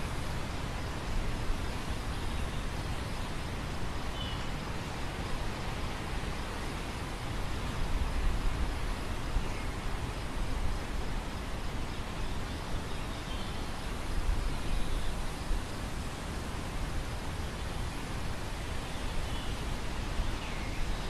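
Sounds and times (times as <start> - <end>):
wind rustling through grain: 0.0 - 21.0.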